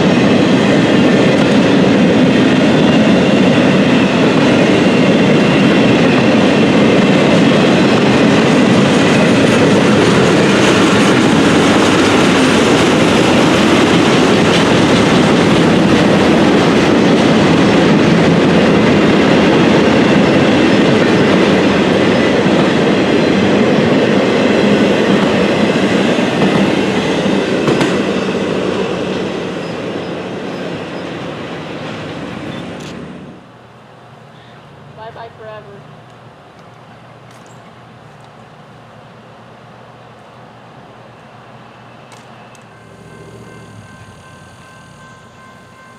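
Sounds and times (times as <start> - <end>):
train cars rolling on track: 0.0 - 45.9.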